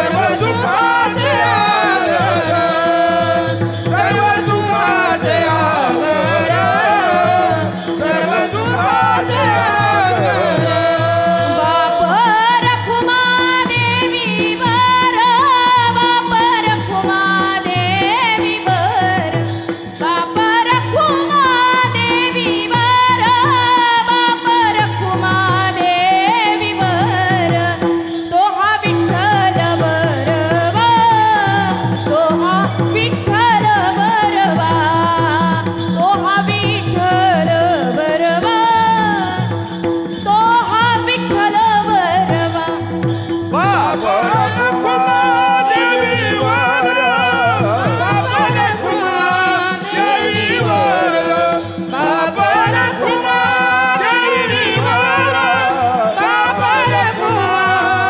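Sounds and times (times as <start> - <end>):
woman singing devotional song: 0.0 - 58.0.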